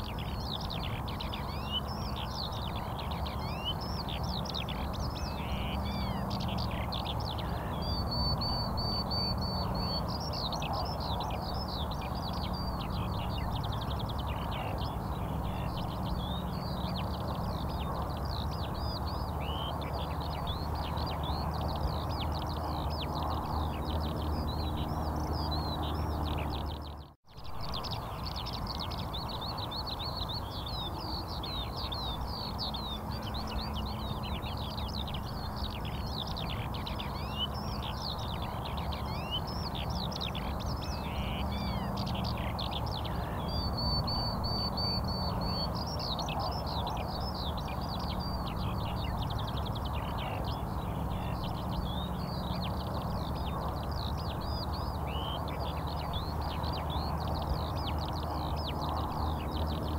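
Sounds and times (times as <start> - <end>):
small birds chirping: 0.0 - 59.9
steady background noise: 0.0 - 59.9.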